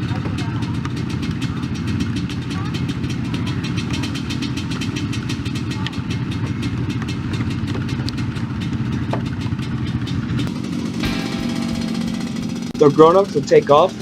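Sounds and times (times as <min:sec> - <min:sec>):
atv engine idling: 0:00.0 - 0:14.0.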